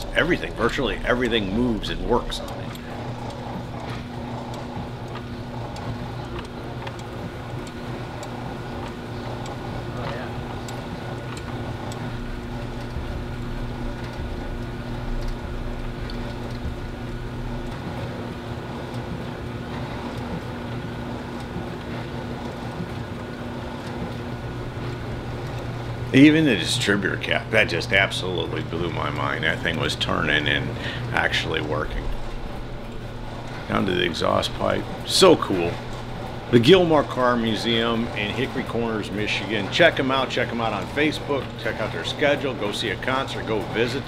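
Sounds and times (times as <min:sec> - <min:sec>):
mechanical motor hum: 0:00.0 - 0:44.0.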